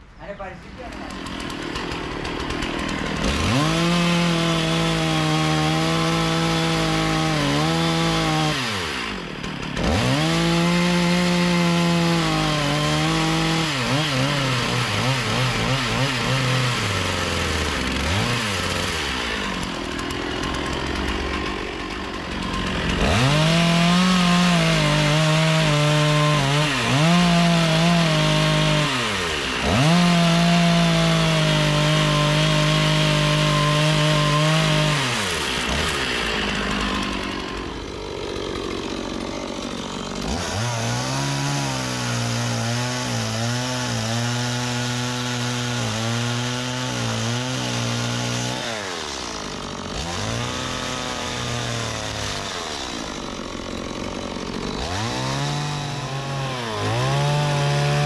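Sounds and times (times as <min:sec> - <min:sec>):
chainsaw cutting wood: 0:00.4 - 0:58.0.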